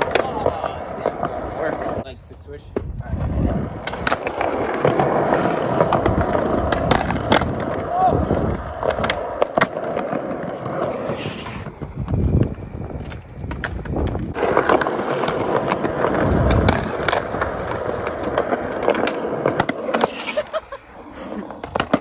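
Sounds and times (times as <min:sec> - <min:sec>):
skateboard clacks: 0:00.0 - 0:02.0, 0:02.7 - 0:22.0
skateboard wheels rolling on concrete: 0:00.0 - 0:22.0.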